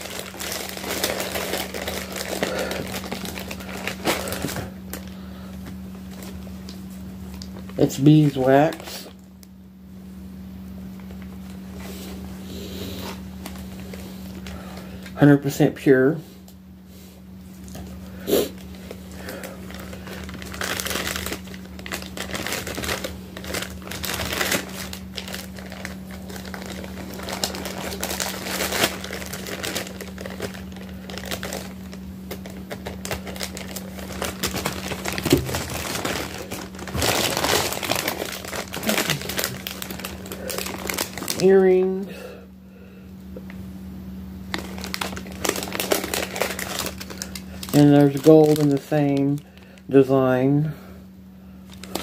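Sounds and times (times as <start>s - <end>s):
plastic packaging crinkling: 0.0s - 9.5s, 13.0s - 15.2s, 17.6s - 42.0s, 44.5s - 50.2s, 51.6s - 52.0s
steady low hum: 0.0s - 52.0s.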